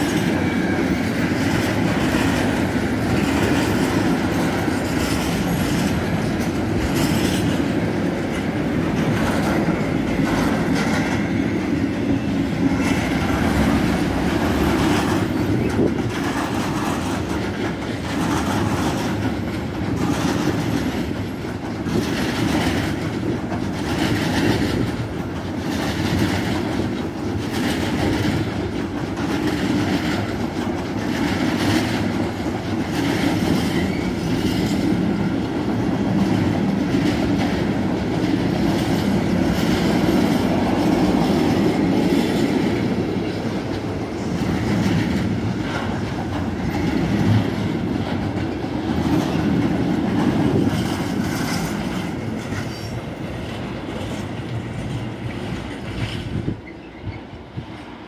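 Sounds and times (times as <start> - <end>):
freight train rolling past: 0.0 - 58.0
wheels clickety-clack over rail joints: 0.0 - 58.0.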